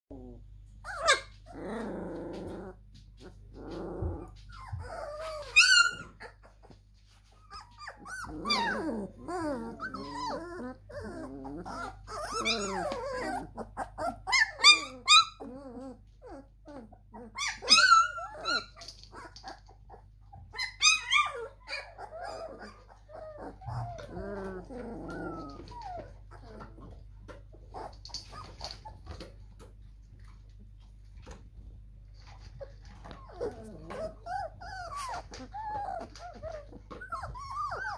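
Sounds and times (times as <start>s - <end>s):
puppies grumbling: 0.1s - 37.9s
puppies squealing and whining: 0.2s - 29.7s, 32.2s - 37.9s.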